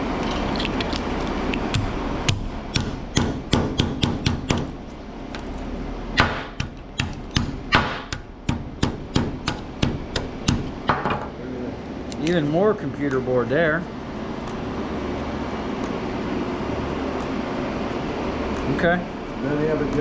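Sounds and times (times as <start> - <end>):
hand tools striking metal: 1.6 - 4.8, 6.2 - 11.3, 12.1 - 20.0.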